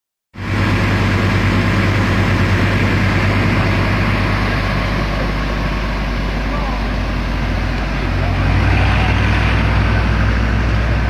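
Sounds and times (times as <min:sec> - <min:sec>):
excavator diesel engine running: 0:00.4 - 0:11.0.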